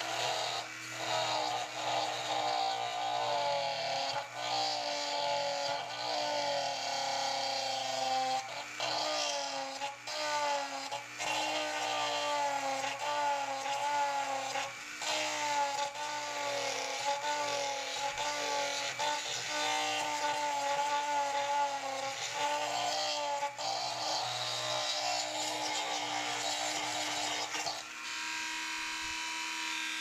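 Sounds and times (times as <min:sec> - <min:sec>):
rotary tool grinding whine: 0:00.0 - 0:30.0.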